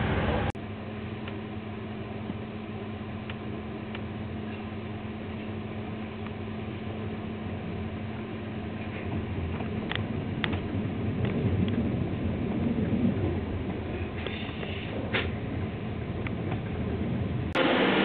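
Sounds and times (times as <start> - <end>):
train rumbling over tracks: 0.0 - 18.0.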